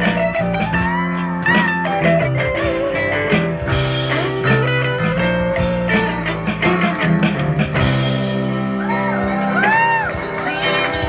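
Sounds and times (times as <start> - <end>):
bass: 0.0 - 11.0
drums: 0.0 - 11.0
guitar with pitch bends: 0.0 - 11.0.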